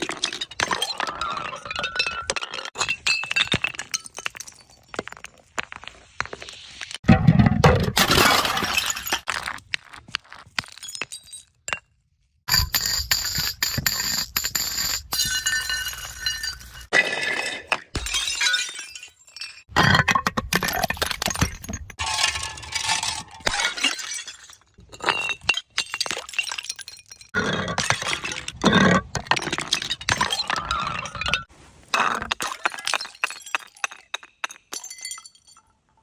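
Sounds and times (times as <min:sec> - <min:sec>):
glass bottles shattering: 0:00.0 - 0:05.2, 0:07.2 - 0:09.5, 0:10.6 - 0:11.8, 0:12.5 - 0:35.7
glass bottles clinking: 0:00.1 - 0:04.8, 0:07.2 - 0:09.2, 0:12.5 - 0:31.5, 0:32.2 - 0:35.7.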